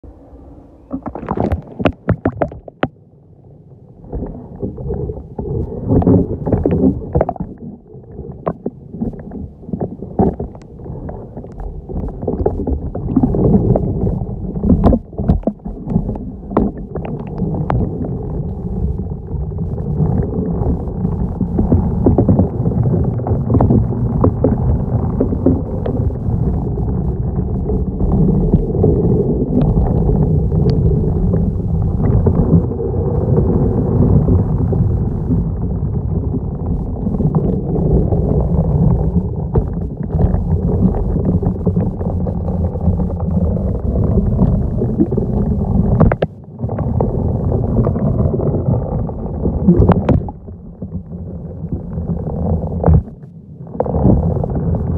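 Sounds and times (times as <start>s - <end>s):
muffled underwater rumble: 0.0s - 54.9s.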